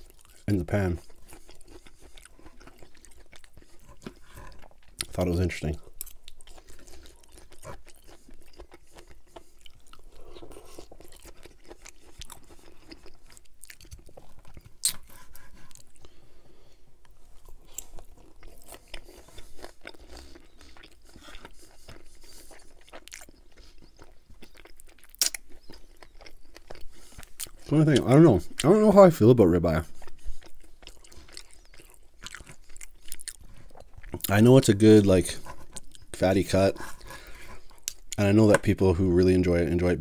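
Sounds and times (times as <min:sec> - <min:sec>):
close chewing and crunching: 0:00.0 - 0:40.0.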